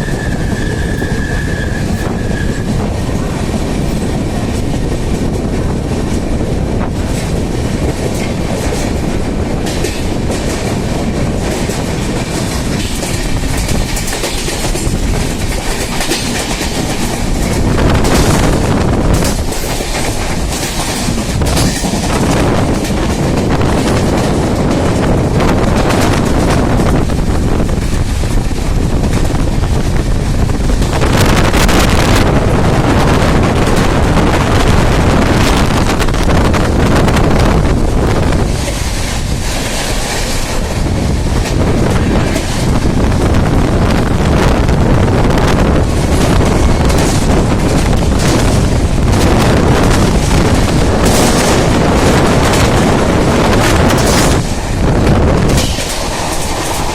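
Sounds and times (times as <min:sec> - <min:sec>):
train rushing rumble: 0:00.0 - 0:56.9
wind buffeting microphone: 0:00.0 - 0:56.9.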